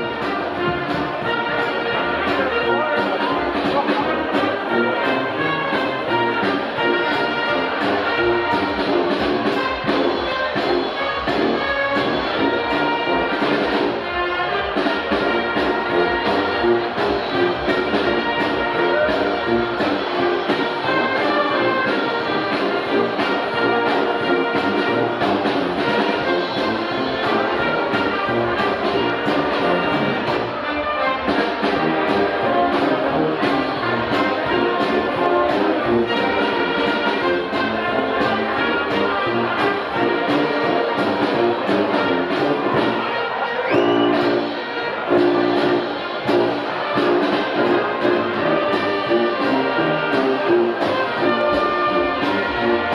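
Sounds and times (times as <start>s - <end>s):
wind band playing: 0.0s - 52.9s.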